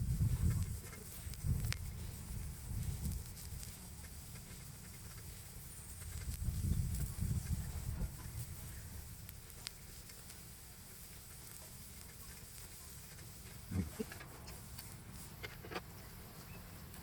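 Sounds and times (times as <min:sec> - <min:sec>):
wood fire crackling and popping: 0:00.0 - 0:07.5, 0:08.4 - 0:15.0.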